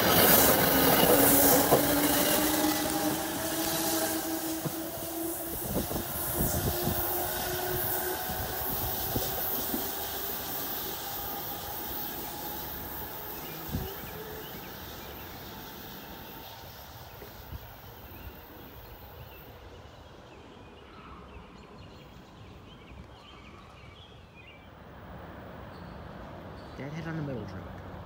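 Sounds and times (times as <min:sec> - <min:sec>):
train hiss and rumble: 0:00.0 - 0:28.0.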